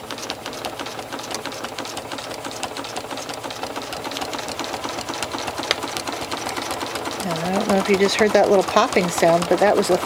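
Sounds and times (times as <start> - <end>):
sewing machine stitching: 0.0 - 10.0.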